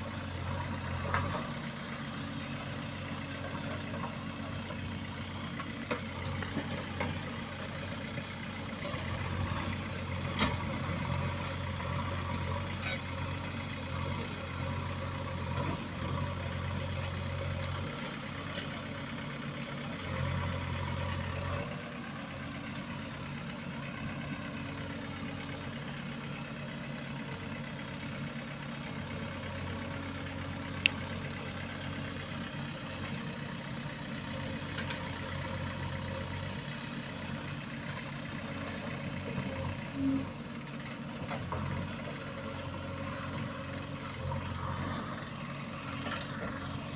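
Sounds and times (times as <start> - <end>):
diesel engine humming at low revs: 0.0 - 46.9.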